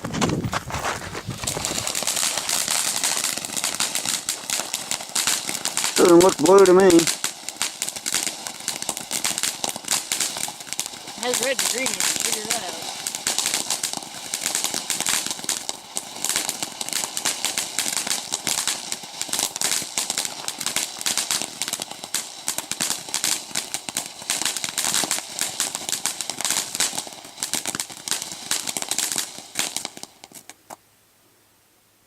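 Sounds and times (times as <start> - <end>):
firework crackling: 0.0 - 30.8.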